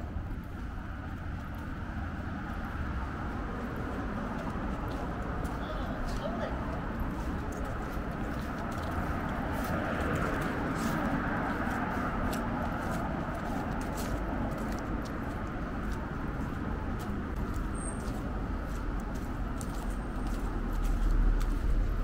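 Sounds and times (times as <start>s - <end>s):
traffic hum: 0.0s - 22.0s
footsteps clicking: 2.5s - 22.0s.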